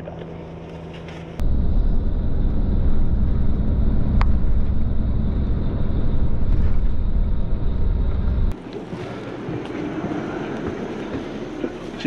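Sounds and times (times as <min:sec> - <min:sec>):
bus engine and road noise: 0:01.2 - 0:12.0.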